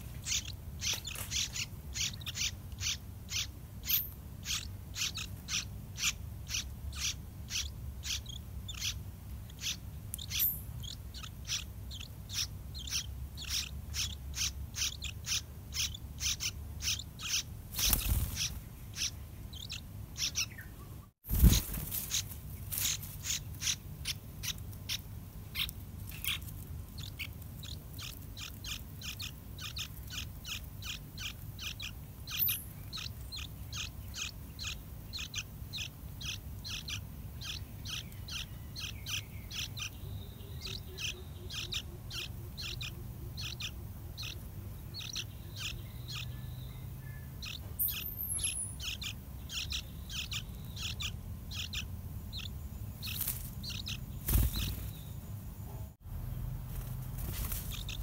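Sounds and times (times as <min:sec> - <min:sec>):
nestlings begging with high chirps: 0:00.0 - 0:58.0.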